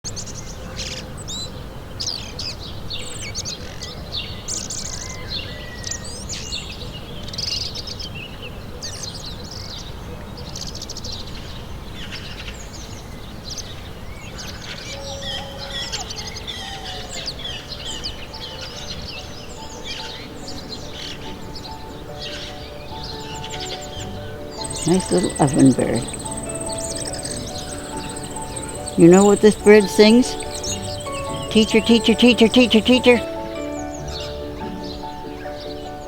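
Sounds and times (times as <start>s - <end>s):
songbirds singing and calling: 0.1s - 36.0s.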